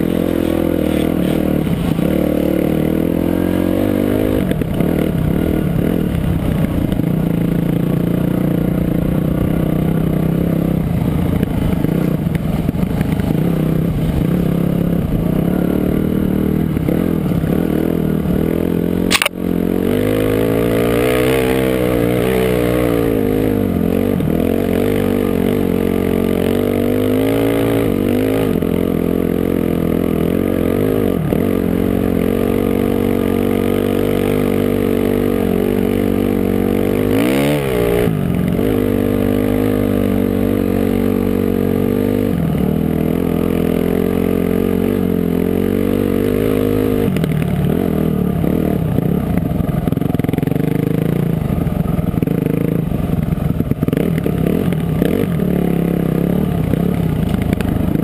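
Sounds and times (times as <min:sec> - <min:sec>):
dirt bike engine revving: 0:00.0 - 0:51.4, 0:52.0 - 0:58.0.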